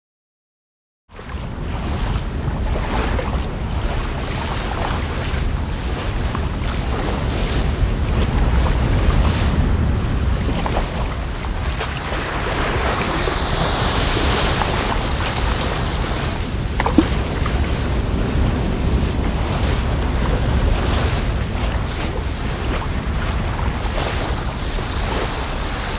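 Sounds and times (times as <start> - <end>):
wind buffeting microphone: 1.2 - 25.9.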